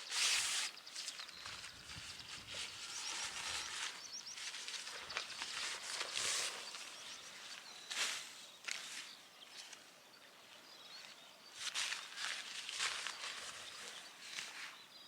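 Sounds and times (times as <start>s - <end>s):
rustling and handling noises: 0.0s - 9.9s, 11.6s - 14.8s
faint bird chirps: 0.0s - 15.0s.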